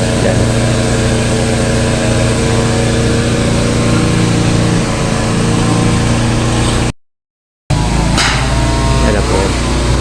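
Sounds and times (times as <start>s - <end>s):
engine running steadily: 0.0s - 6.9s, 7.7s - 10.0s.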